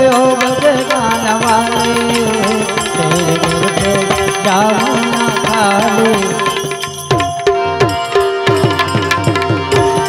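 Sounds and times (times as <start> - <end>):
held melody note: 0.0 - 10.0.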